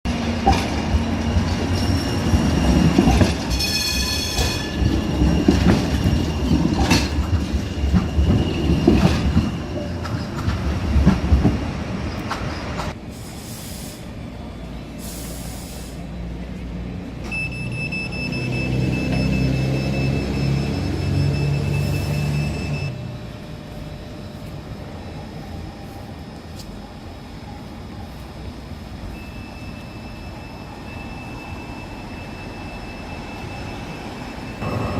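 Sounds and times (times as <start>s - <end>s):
train wheels rumbling on rails: 0.1s - 17.4s, 18.5s - 34.9s.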